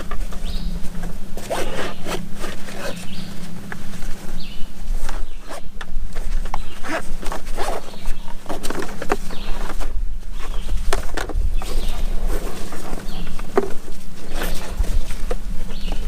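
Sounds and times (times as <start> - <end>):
rustling in a nylon pack: 0.0 - 16.0
steady low hum: 0.0 - 16.0.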